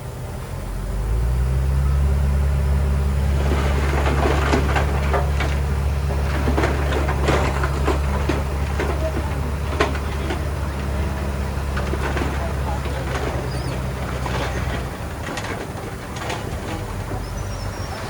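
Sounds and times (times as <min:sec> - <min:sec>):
diesel engine low drone: 0:00.0 - 0:18.0
metal clanks and knocks: 0:03.4 - 0:18.0.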